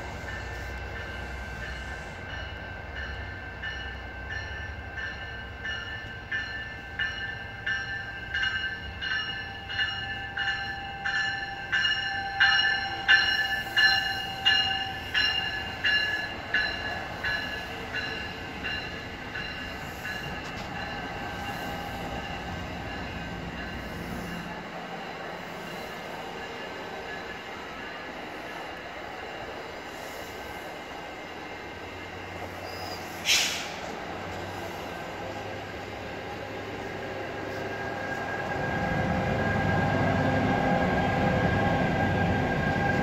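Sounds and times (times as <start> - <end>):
train coaches rolling past: 0.0 - 43.0.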